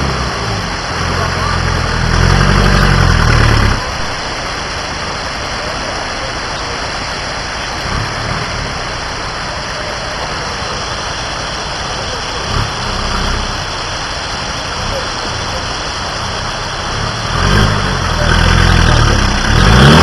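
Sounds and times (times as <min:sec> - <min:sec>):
off-road vehicle engine revving: 0:00.0 - 0:04.5, 0:07.0 - 0:20.0.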